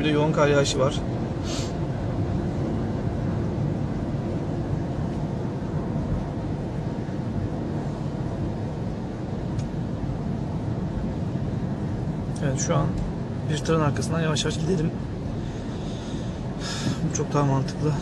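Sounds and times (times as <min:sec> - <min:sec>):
road and engine rumble in car: 0:00.0 - 0:18.0
tyres on snowy road: 0:00.0 - 0:18.0.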